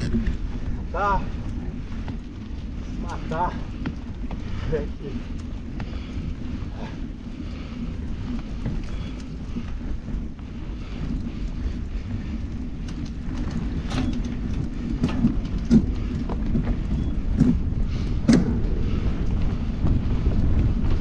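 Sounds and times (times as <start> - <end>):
bike knocks and rattles: 0.0 - 21.0
bike rolling over dirt: 0.0 - 21.0.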